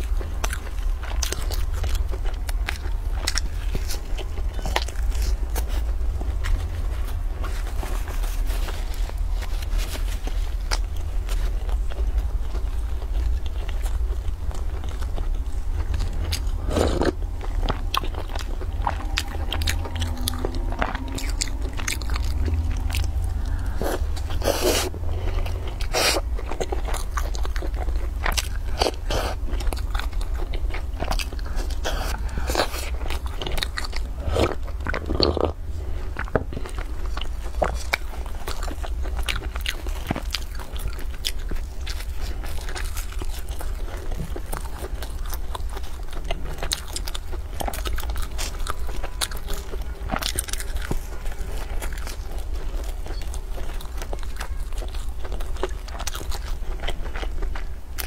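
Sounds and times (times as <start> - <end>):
chewing crunchy bread: 0.0 - 58.0
steady low hum: 0.0 - 58.0.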